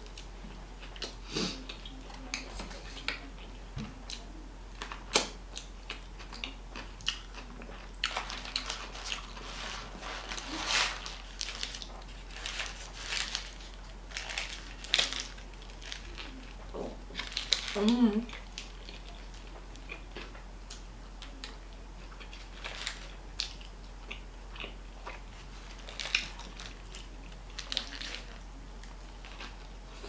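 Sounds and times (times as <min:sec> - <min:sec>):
person chewing and crunching food: 0:00.0 - 0:30.0.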